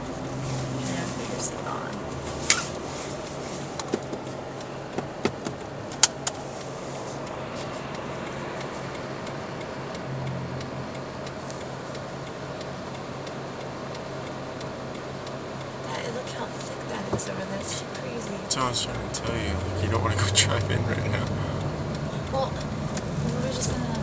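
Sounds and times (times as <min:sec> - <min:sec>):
car cabin road and engine hum: 0:00.0 - 0:24.0
sharp irregular clicks: 0:03.2 - 0:24.0.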